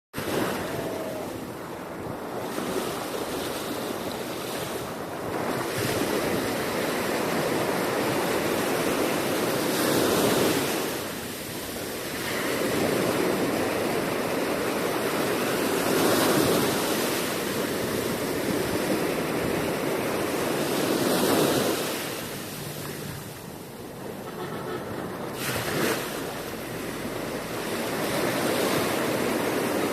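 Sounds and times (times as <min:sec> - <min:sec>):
ocean waves surf: 0:00.2 - 0:29.9.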